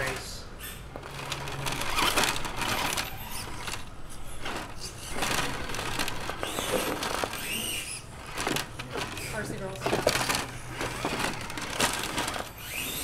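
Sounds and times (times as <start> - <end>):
toy car motor whirring: 0.0 - 13.0
tyres scraping on stones: 0.9 - 13.0.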